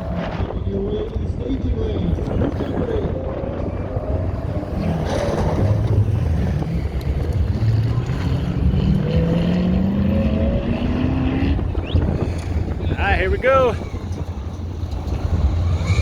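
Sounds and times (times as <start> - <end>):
wind buffeting microphone: 0.0 - 16.0
race car engine accelerating: 2.2 - 16.0.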